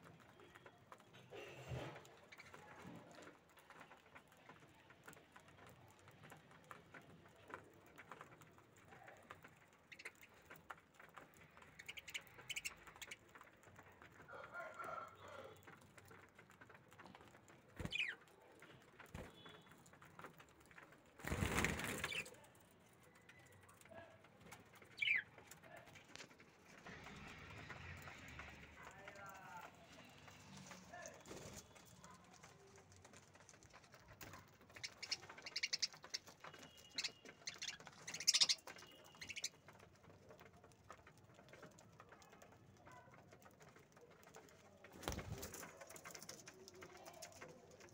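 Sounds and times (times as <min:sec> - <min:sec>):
birds pecking seed: 0:00.0 - 0:47.9.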